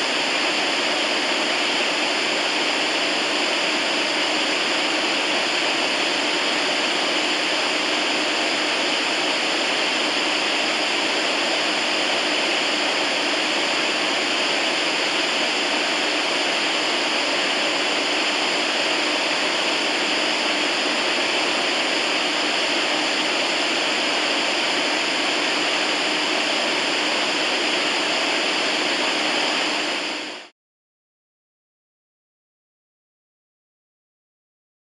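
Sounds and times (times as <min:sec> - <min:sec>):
radio static hiss: 0:00.0 - 0:30.5.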